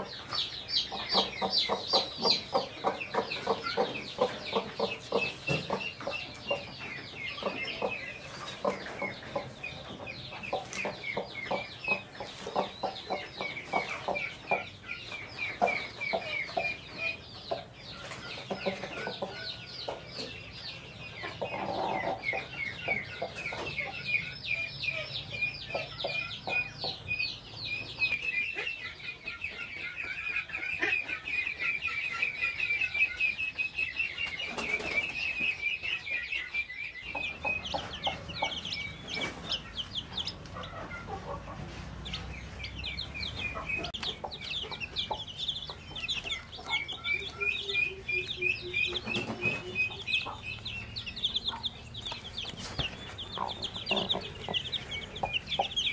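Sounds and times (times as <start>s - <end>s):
chicks peeping: 0.0s - 55.9s
hen clucking: 0.0s - 55.9s.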